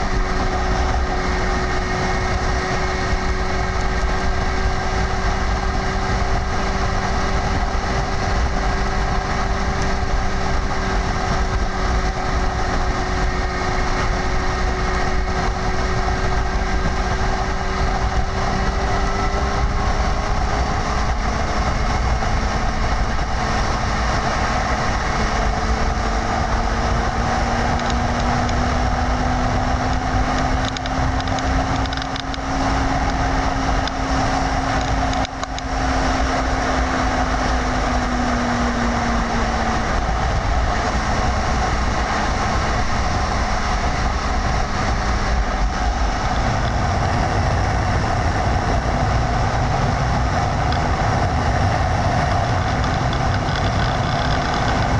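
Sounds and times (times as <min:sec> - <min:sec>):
road and wind noise: 0:00.0 - 0:54.9
vehicle engine: 0:00.0 - 0:54.9.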